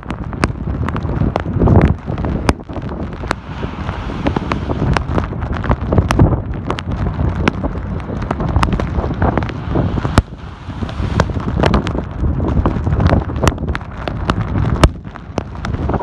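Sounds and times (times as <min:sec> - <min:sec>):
wind gusting against microphone: 0:00.0 - 0:16.0.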